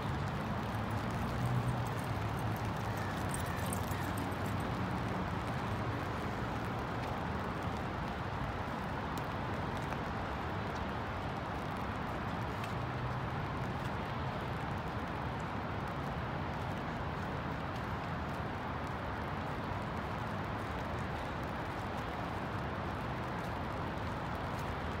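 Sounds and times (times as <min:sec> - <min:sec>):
cars passing rumble: 0:00.0 - 0:25.0
rain hiss: 0:00.0 - 0:25.0
traffic on wet road: 0:00.0 - 0:25.0.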